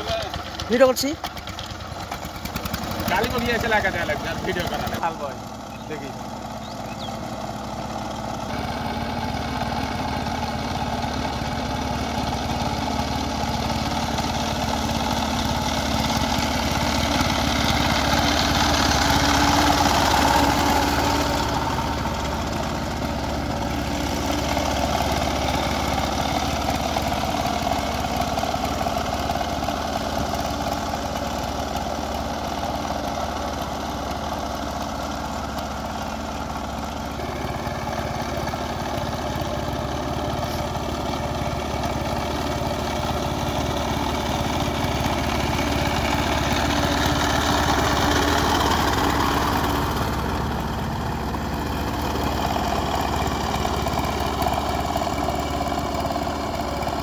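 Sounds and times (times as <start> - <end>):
power tiller engine running: 0.0 - 57.0.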